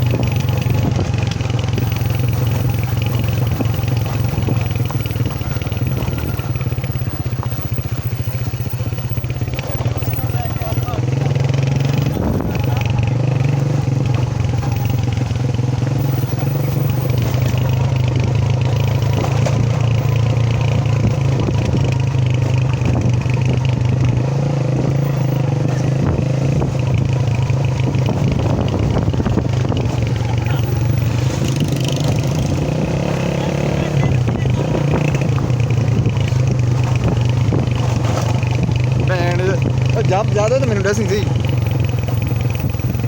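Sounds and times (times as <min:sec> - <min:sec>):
rattles over the road: 0:00.0 - 0:43.0
vehicle engine running: 0:00.0 - 0:43.0.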